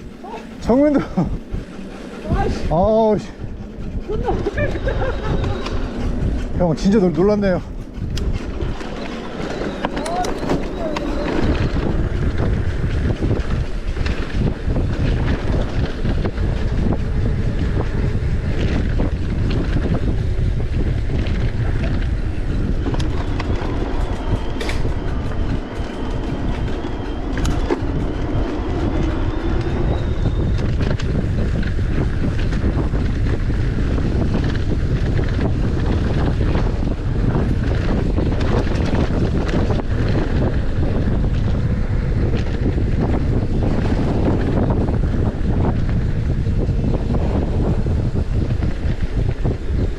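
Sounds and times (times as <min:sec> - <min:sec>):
low rumble: 0:00.0 - 0:49.9
wind buffeting microphone: 0:00.0 - 0:49.9.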